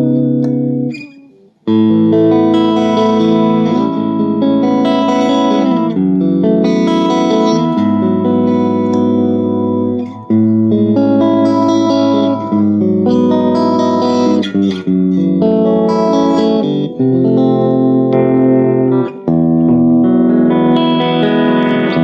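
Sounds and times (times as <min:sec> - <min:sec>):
electric guitar chords ringing: 0:00.0 - 0:22.0.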